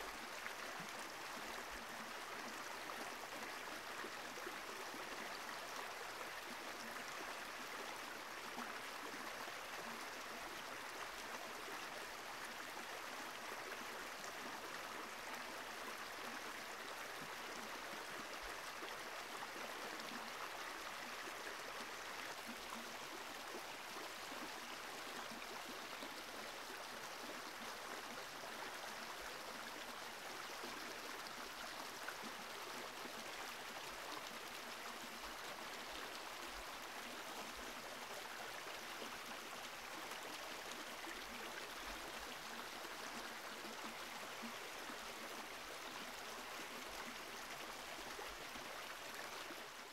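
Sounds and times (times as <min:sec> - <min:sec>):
flowing water rushing: 0:00.0 - 0:49.9.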